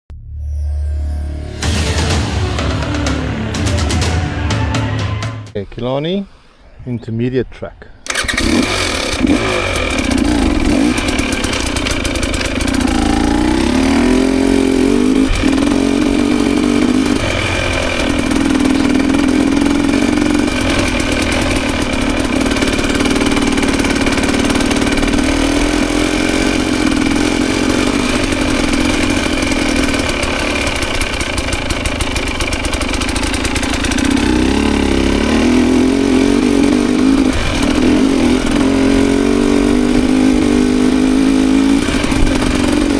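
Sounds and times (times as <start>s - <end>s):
dirt bike engine revving: 8.0s - 42.9s.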